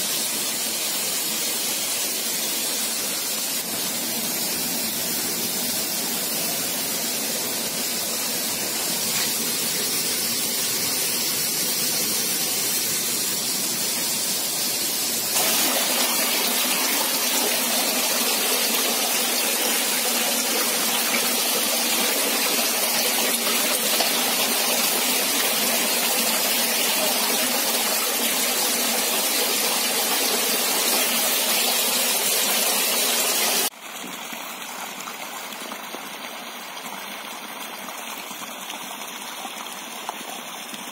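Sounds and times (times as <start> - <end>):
water rushing from a pipe: 0.0 - 40.9.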